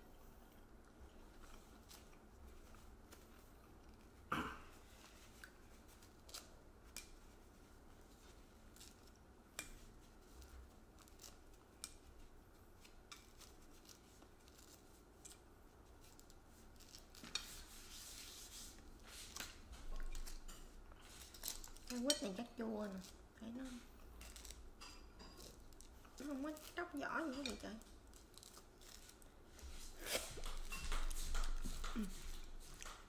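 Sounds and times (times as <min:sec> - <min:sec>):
peel rustling: 0:00.0 - 0:33.0.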